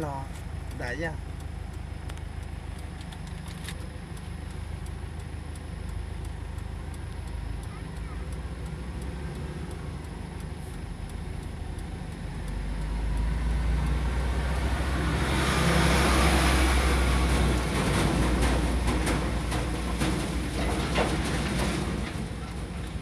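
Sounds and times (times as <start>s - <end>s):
semi-truck passing: 0.0s - 23.0s
truck engine idling: 0.0s - 23.0s.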